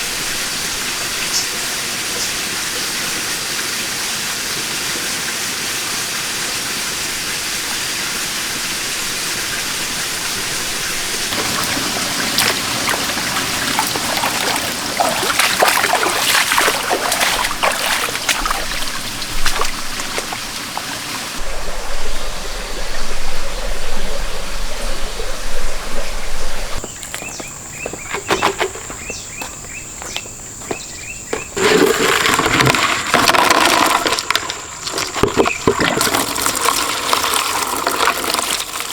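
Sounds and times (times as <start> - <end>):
running water: 0.0 - 29.4, 30.1 - 38.9.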